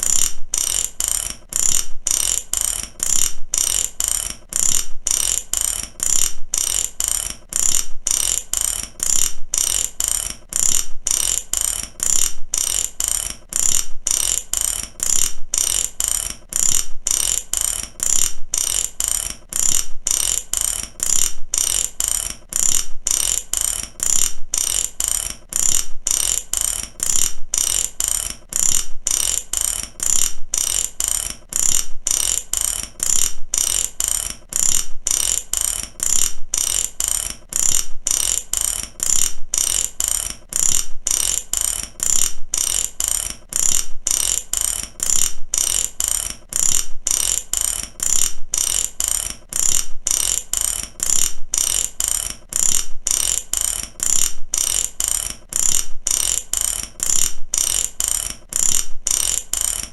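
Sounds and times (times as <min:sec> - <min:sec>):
mechanical ratchet clicking: 0:00.0 - 0:59.9.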